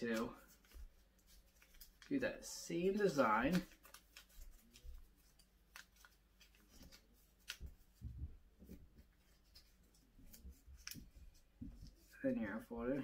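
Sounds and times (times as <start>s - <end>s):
paper crinkling being folded: 0.0s - 12.3s.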